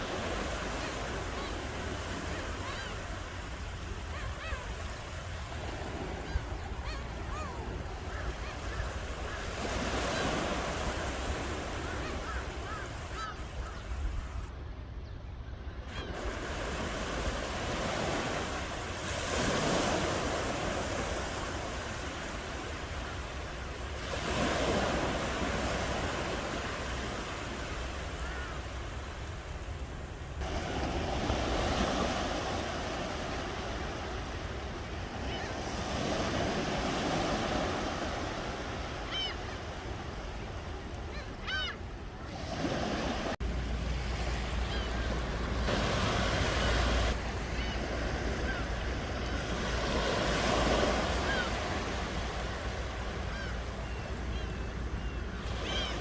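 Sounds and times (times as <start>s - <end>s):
waves breaking: 0.0s - 14.5s, 16.0s - 56.0s.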